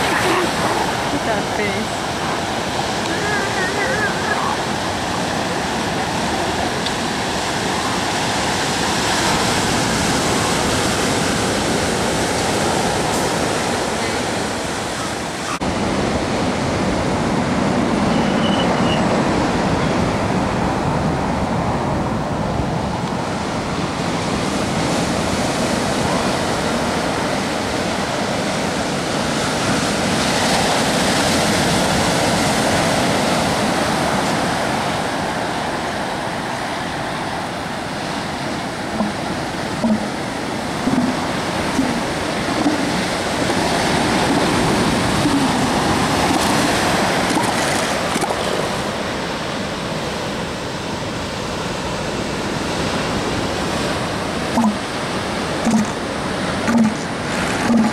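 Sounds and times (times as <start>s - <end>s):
surf breaking on sandy beach: 0.0s - 57.9s.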